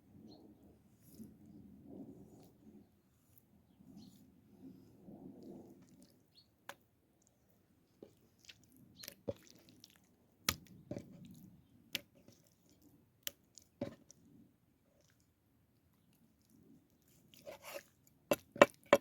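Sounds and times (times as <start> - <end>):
soft wet squishing: 0.1 - 19.0.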